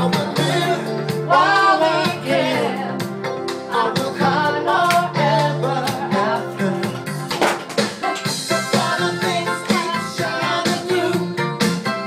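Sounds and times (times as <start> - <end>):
song with singing and beat: 0.0 - 12.0.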